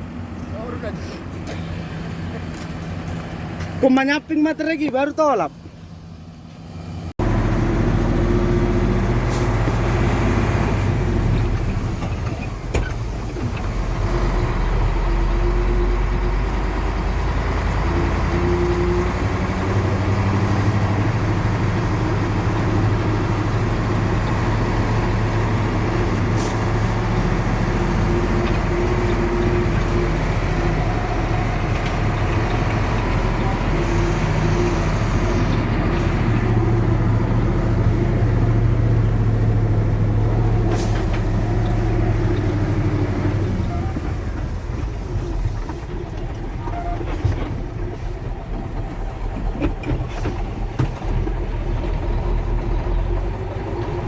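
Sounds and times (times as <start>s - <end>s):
excavator diesel engine running: 5.8s - 54.0s.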